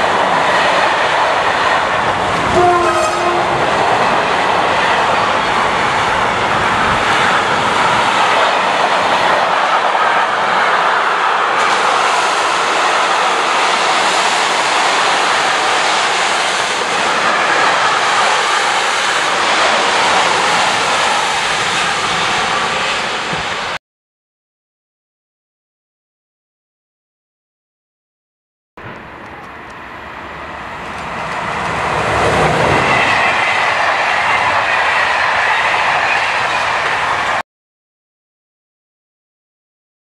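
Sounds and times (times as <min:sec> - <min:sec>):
train wheels rolling on rails: 0:00.0 - 0:23.8, 0:28.8 - 0:37.4.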